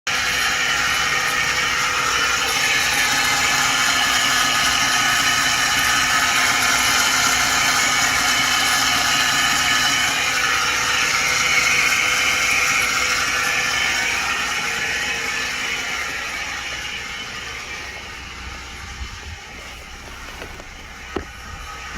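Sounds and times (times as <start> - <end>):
engine running: 0.1 - 21.9
high-pitched whine: 0.1 - 21.9.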